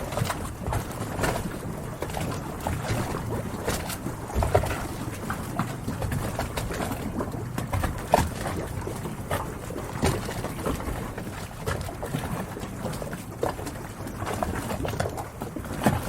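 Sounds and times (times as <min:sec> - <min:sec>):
water lapping around boats: 0:00.0 - 0:16.0.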